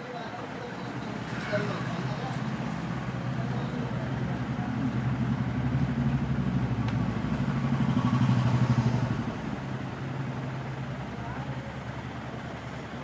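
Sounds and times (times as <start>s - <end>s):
engine pulsing hum: 1.0s - 13.0s.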